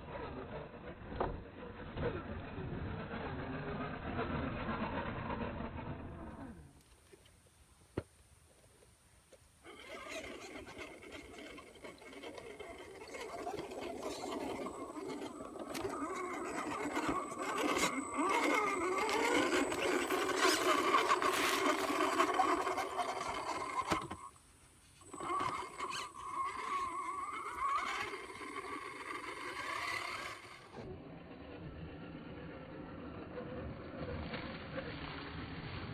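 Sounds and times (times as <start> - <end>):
toy truck electric motor whirring: 0.2 - 6.5, 9.6 - 24.4, 25.0 - 35.8.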